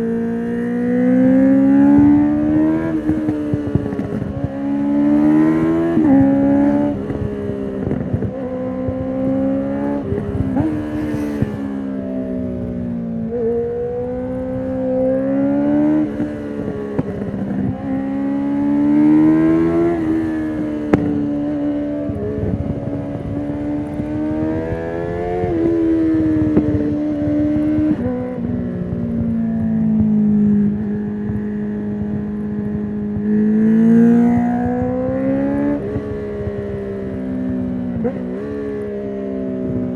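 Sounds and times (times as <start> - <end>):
motorcycle engine revving: 0.0 - 39.9
wind rush: 1.8 - 38.8.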